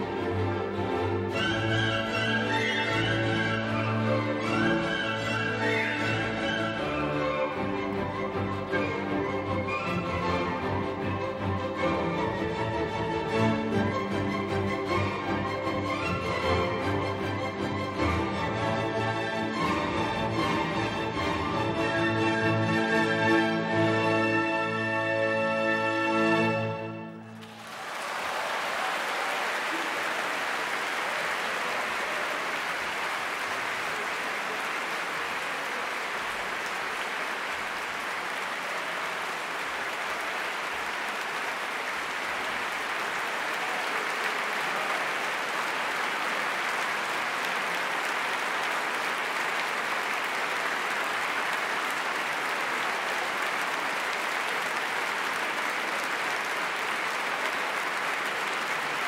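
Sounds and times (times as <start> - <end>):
audience applauding: 0.0 - 21.7, 27.2 - 59.0.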